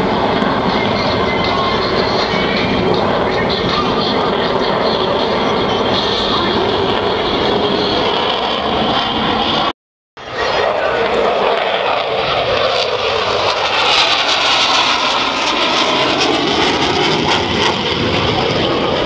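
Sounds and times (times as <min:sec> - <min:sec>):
jet engines flying past: 0:00.0 - 0:19.0.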